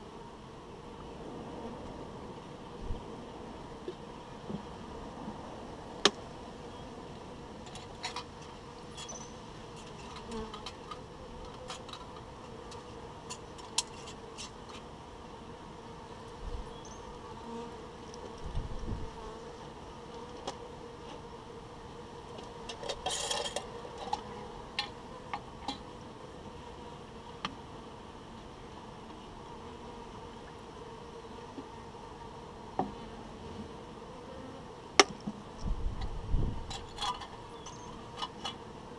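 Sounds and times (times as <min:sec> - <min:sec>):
honeybees buzzing: 0:00.0 - 0:38.9.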